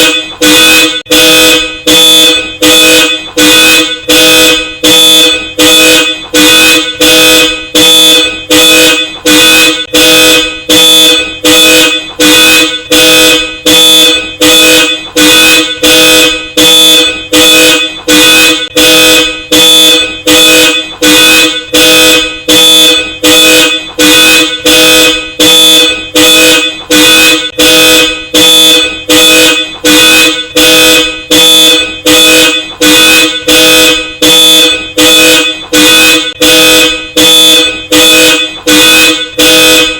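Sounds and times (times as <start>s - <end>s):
car alarm honking dual-tone horn: 0.0s - 39.9s.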